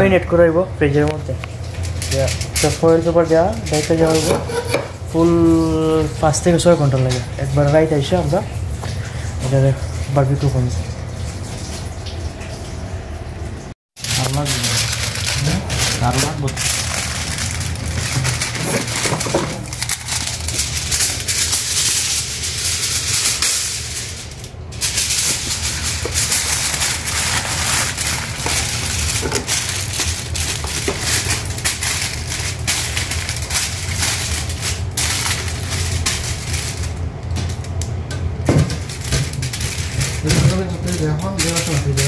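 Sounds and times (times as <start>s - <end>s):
aluminium foil crinkling: 1.3s - 8.3s, 14.0s - 42.0s.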